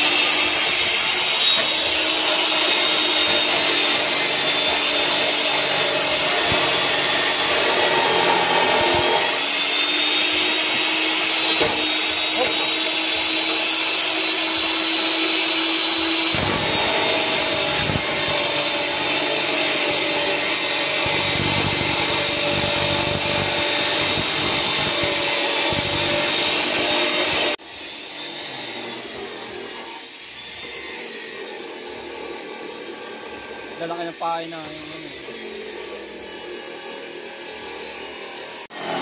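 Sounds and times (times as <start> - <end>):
angle grinder cutting steel: 0.0 - 39.0.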